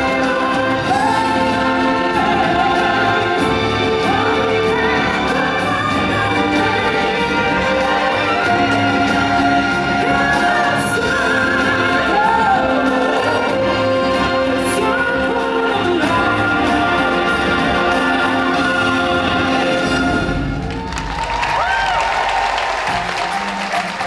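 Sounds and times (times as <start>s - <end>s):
voices singing held notes: 0.0s - 20.6s
orchestral backing music: 0.0s - 24.0s.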